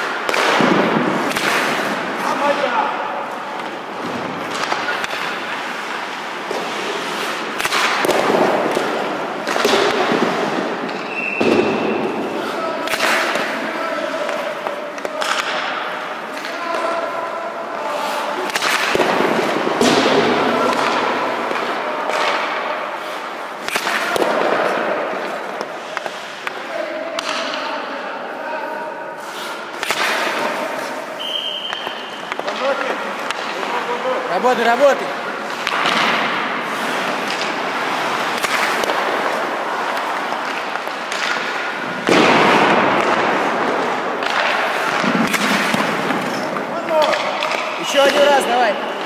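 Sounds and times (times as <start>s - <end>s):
pucks cracking against pads: 0.0s - 2.7s, 3.3s - 17.1s, 17.7s - 27.7s, 29.2s - 49.0s
skates and pads scraping ice: 0.0s - 27.8s, 28.6s - 49.0s.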